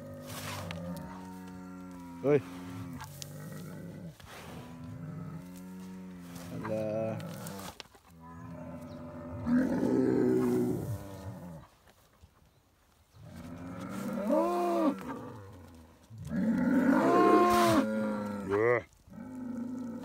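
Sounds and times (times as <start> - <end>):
bull bellowing: 0.0 - 11.6, 13.3 - 20.0.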